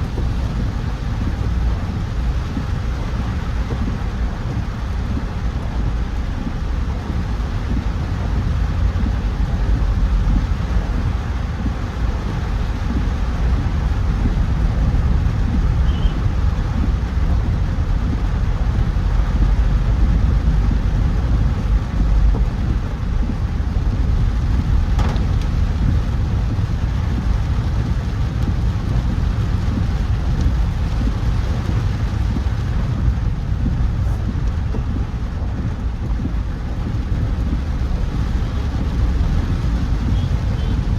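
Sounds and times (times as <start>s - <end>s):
car road and engine rumble: 0.0s - 40.9s
rain and wet tyres hissing: 0.0s - 40.9s.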